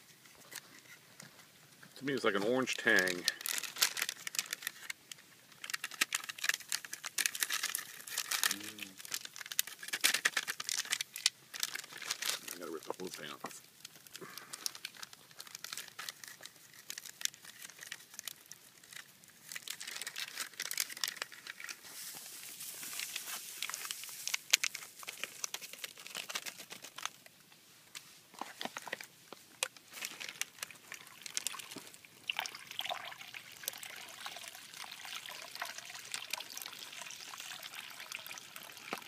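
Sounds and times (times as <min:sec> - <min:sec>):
plastic pouch crinkling: 0:02.0 - 0:27.4, 0:28.0 - 0:39.0.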